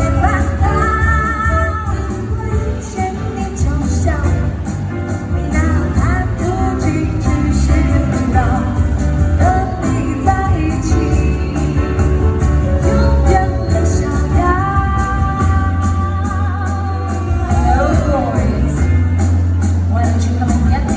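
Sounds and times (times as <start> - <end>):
live jazz band: 0.0 - 20.9.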